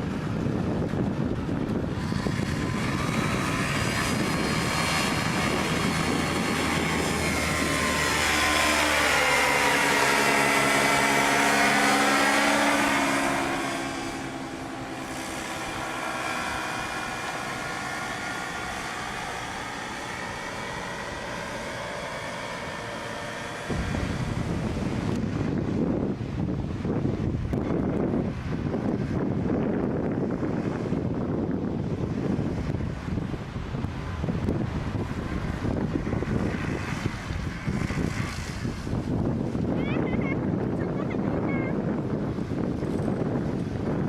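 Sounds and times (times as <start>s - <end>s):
paramotor engine droning: 0.0s - 44.0s
wind on microphone: 0.0s - 44.0s.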